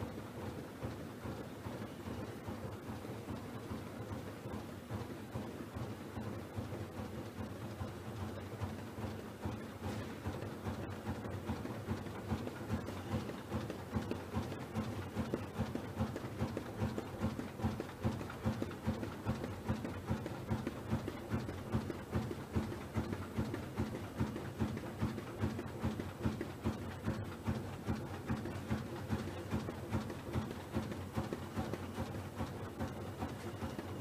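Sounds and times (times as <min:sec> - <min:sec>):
printing machine clattering: 0:00.5 - 0:34.0.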